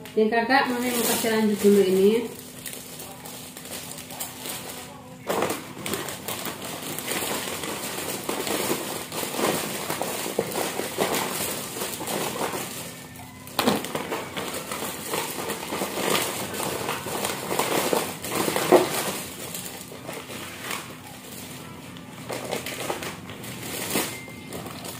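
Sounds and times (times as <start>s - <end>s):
plastic bags crinkling: 0.0s - 24.9s.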